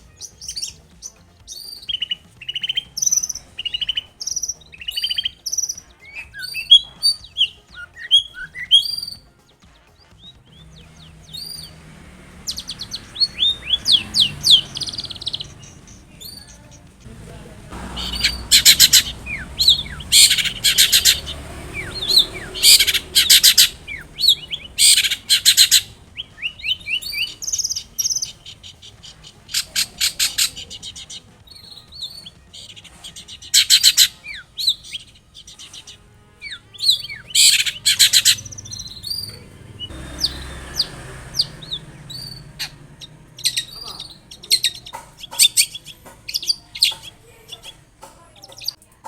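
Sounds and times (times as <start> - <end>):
shrike harsh chattering song: 0.0 - 9.3, 10.2 - 48.8.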